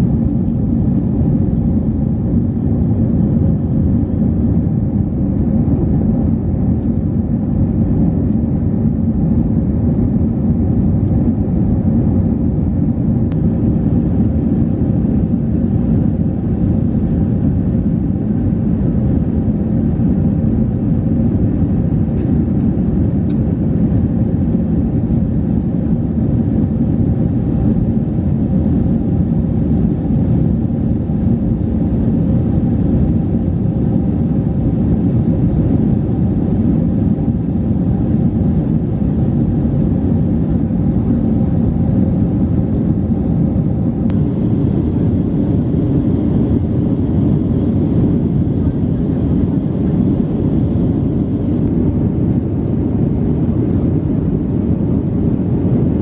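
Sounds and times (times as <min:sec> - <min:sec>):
airliner engine rumble in cabin: 0:00.0 - 0:56.0
faint steady hum: 0:00.0 - 0:56.0.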